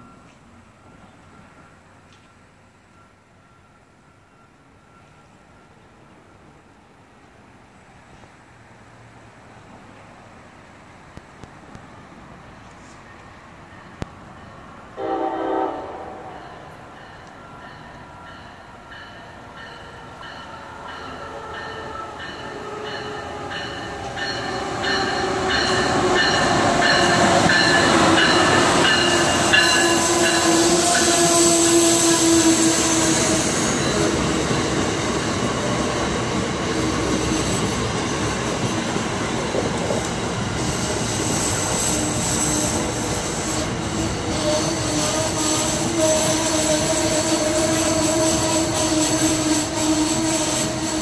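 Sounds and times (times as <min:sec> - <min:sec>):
train passing: 0:00.0 - 0:51.0.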